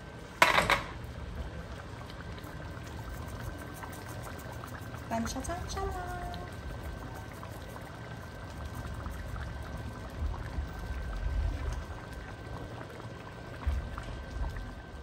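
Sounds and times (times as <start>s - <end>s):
sauce bubbling and popping: 1.2s - 15.0s.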